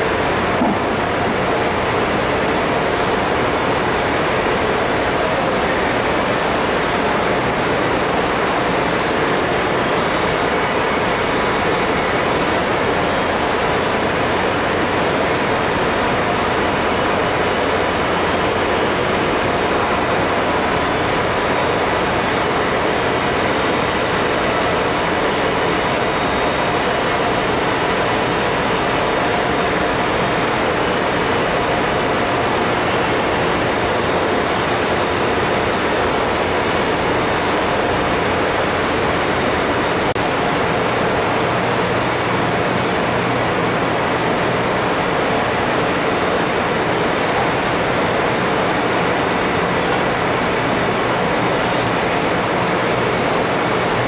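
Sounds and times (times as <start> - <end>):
steady rushing air flow: 0.0 - 54.0.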